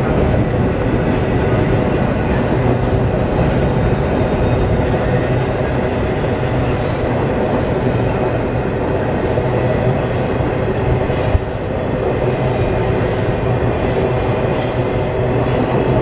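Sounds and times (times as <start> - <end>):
train rumbling across bridge: 0.0 - 16.0.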